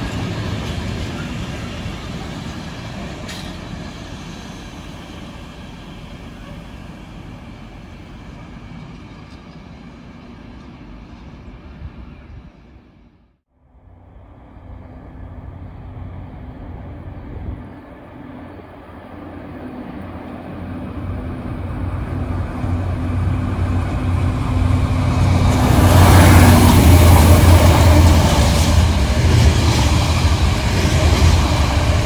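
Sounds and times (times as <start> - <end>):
distant train approaching: 0.0 - 32.0
freight train rolling past: 0.0 - 32.0.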